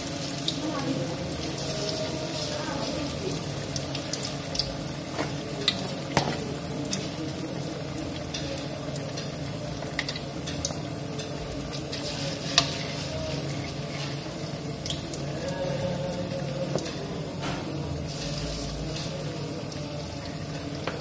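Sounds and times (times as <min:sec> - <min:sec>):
hot oil sizzling in a wok: 0:00.0 - 0:21.0.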